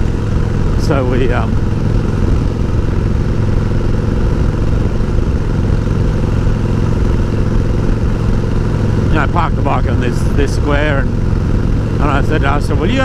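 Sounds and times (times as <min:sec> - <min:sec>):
motorcycle engine running: 0:00.0 - 0:13.0
steady rushing noise: 0:00.0 - 0:13.0.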